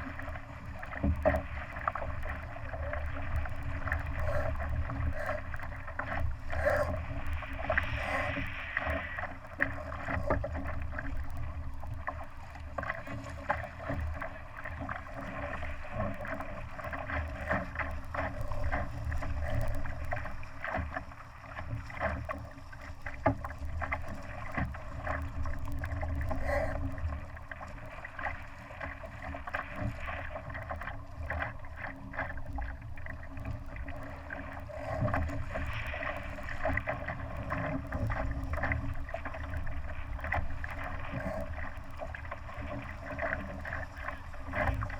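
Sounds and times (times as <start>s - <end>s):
water splashing around a dinghy: 0.0s - 44.9s.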